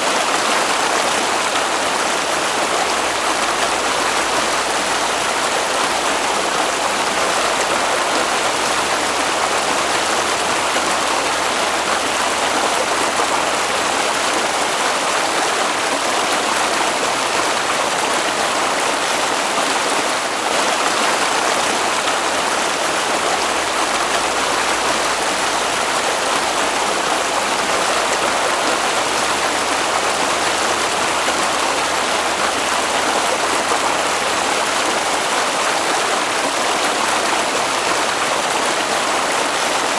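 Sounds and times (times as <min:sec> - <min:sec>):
water rushing in a stream: 0:00.0 - 0:39.9.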